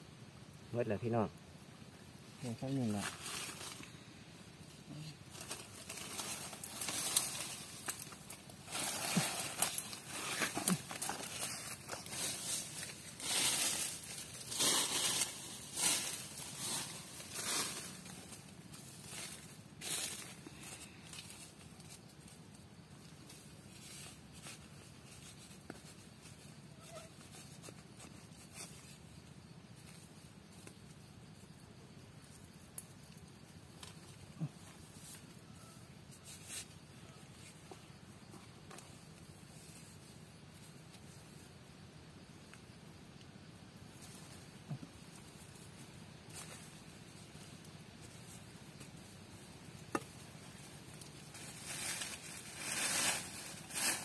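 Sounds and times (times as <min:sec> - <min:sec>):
rustling of dry leaves: 0:00.7 - 0:54.0.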